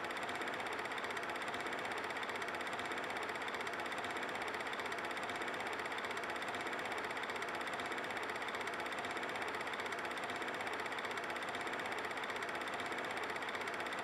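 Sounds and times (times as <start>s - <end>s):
film projector whirring clatter: 0.0s - 14.0s.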